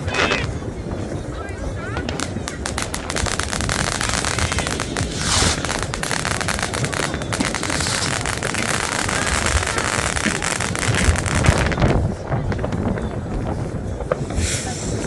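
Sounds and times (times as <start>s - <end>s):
hissing rush: 0.0s - 12.2s, 13.7s - 15.0s
fireworks crackling and popping: 0.0s - 15.0s.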